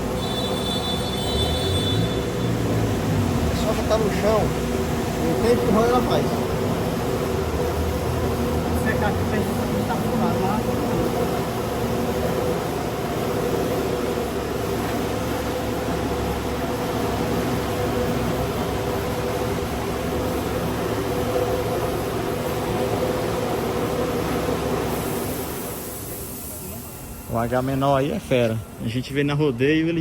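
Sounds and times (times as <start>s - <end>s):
machine running hum: 0.0s - 26.5s.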